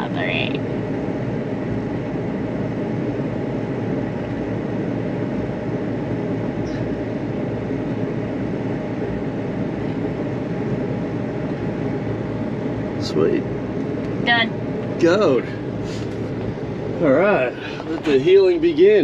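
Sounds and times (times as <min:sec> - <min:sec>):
vehicle road noise rumble: 0:00.0 - 0:19.0.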